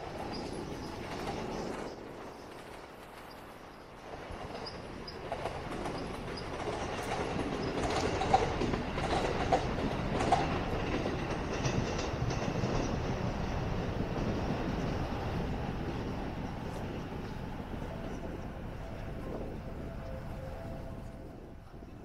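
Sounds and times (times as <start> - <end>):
wheels clacking over rail joints: 0.0 - 18.3
electric train rumbling past: 0.0 - 22.0.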